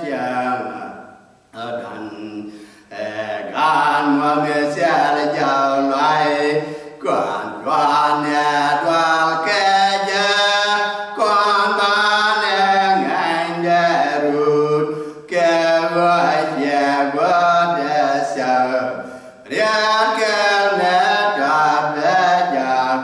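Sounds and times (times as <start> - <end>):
man singing a chant: 0.0 - 23.0.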